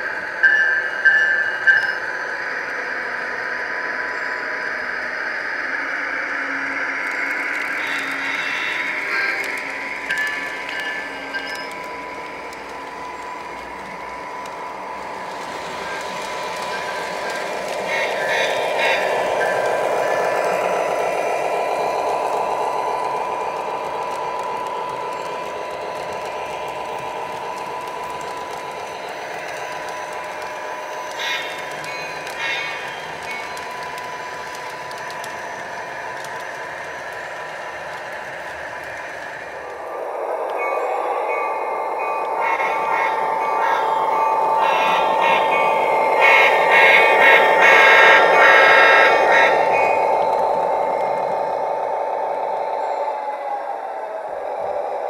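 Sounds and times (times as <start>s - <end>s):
model train motors humming: 0.0s - 55.0s
rail joint clicks: 0.4s - 2.9s, 6.5s - 53.4s.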